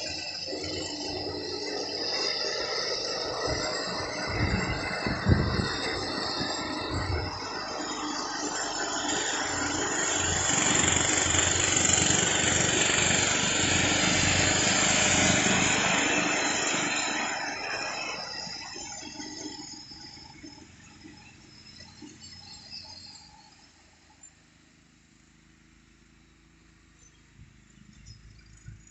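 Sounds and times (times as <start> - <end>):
small petrol engine running: 0.0 - 28.9.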